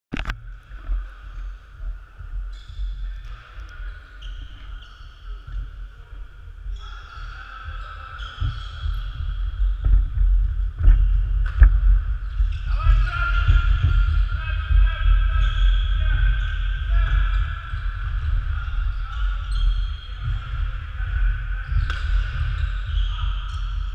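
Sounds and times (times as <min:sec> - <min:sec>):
low hall rumble: 0:00.3 - 0:23.9.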